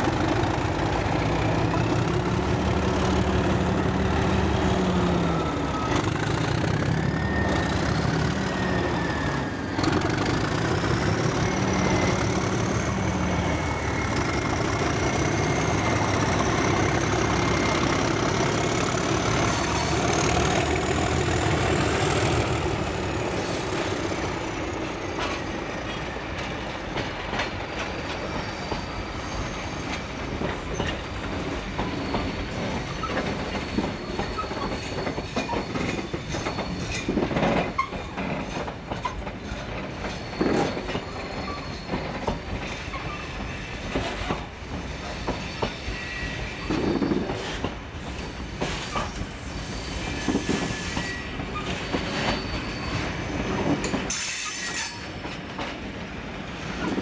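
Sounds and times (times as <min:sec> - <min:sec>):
wheels clattering on rail joints: 0:00.0 - 0:57.0
train wheels squealing: 0:00.1 - 0:57.0.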